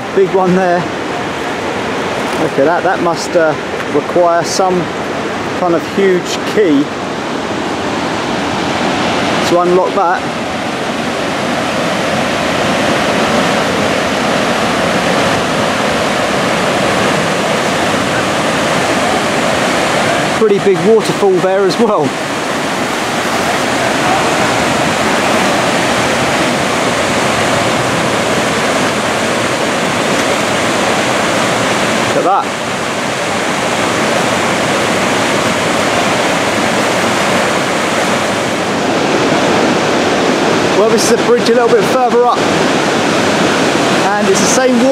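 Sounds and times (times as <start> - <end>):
waterfall and rapids roaring: 0.0 - 44.9.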